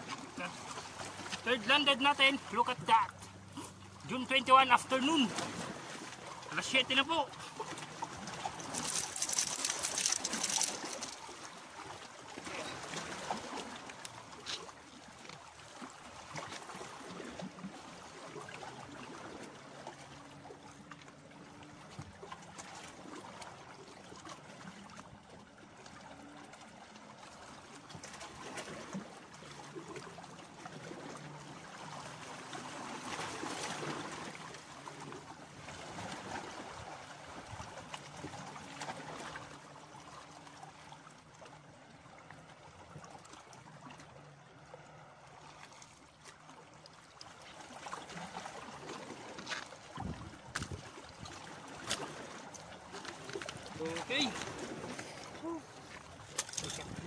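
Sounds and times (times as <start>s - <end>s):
waves lapping against rocks: 0.0s - 57.0s.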